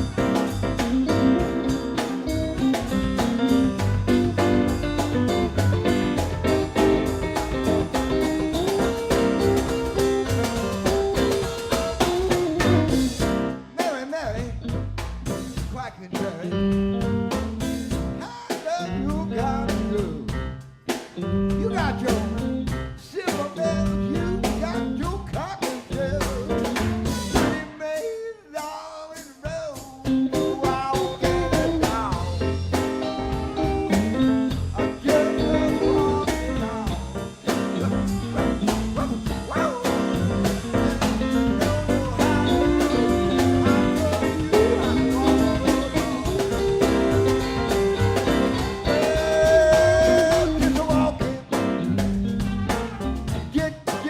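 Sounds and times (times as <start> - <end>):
blues band playing: 0.0 - 54.0.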